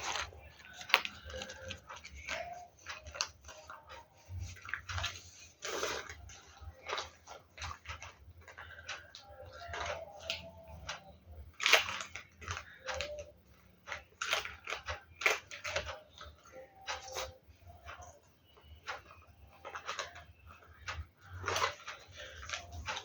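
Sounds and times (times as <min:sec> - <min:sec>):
paper and plastic crinkling: 0:00.0 - 0:23.0.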